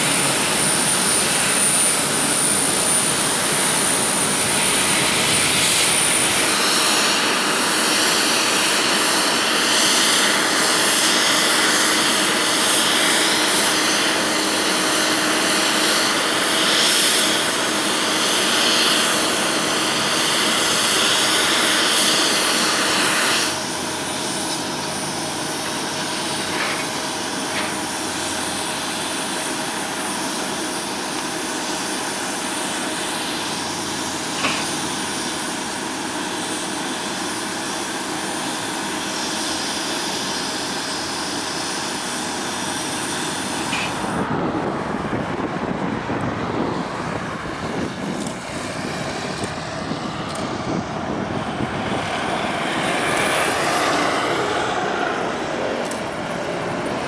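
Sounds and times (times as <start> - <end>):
wind noise: 0.0 - 36.5, 42.2 - 57.0
jet turbine whine: 0.0 - 57.0
road traffic: 0.0 - 57.0.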